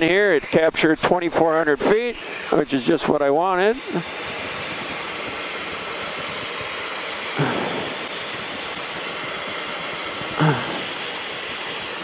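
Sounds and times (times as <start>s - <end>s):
light aircraft engine and propeller: 0.0s - 12.0s.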